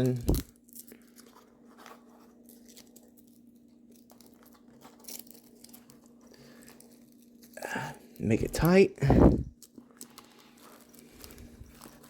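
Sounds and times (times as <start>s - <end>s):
velcro strap rustling: 0.0s - 8.4s, 9.2s - 12.0s.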